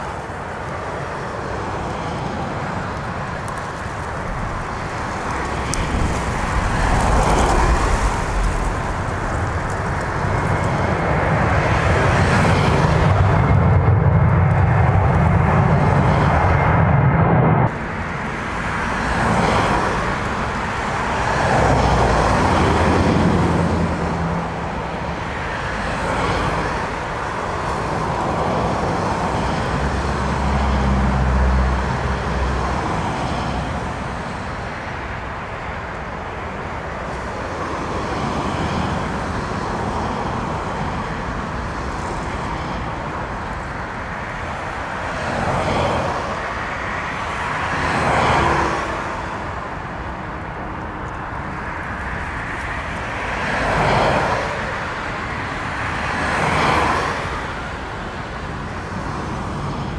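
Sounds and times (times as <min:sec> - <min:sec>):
jet airliner engines: 0:00.0 - 0:59.9
wind gusting on microphone: 0:00.0 - 0:59.9.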